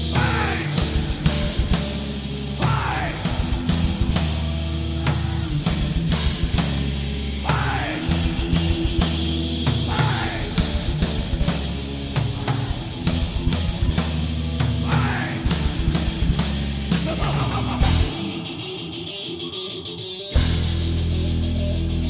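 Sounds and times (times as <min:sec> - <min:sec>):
heavy metal band playing live: 0:00.0 - 0:22.0.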